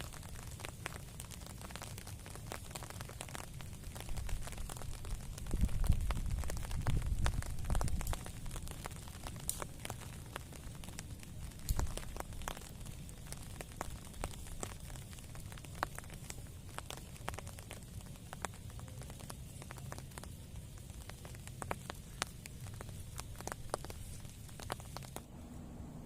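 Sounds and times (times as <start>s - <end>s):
wood fire crackling and popping: 0.0s - 25.3s
rain: 0.0s - 26.0s
wind: 0.0s - 26.0s.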